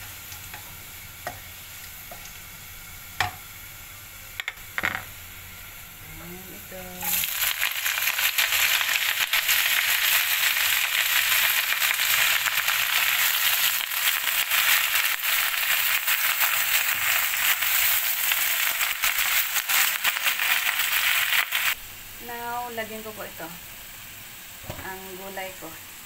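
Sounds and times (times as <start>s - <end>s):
greens sizzling in wok: 0.0s - 26.0s.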